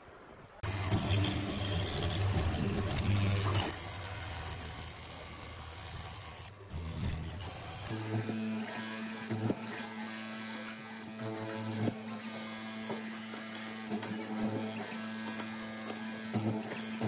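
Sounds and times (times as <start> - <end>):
electric motor humming: 0.6 - 17.0.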